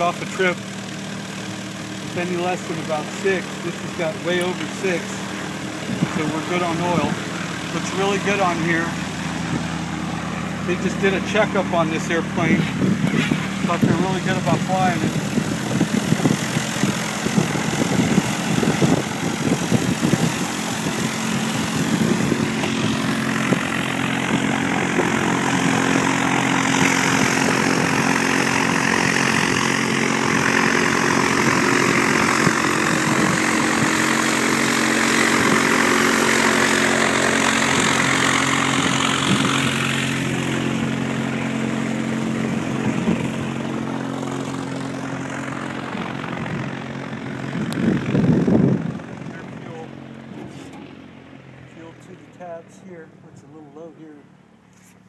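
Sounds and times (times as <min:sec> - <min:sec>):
light aircraft engine running: 0:00.0 - 0:55.0.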